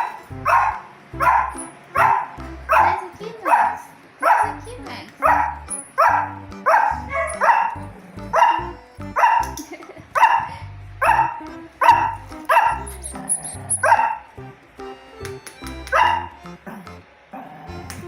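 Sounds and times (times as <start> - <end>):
dog barking: 0.0 - 4.6, 5.2 - 14.3, 15.9 - 16.8.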